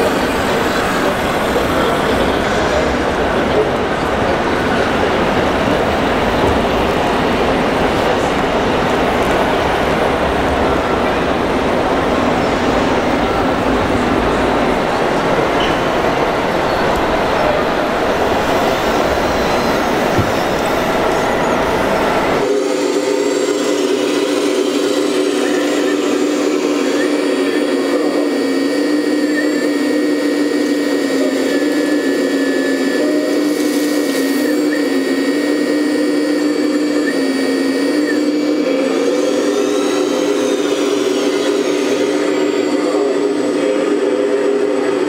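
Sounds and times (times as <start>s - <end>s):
hydraulic pump whining: 0.0s - 45.0s.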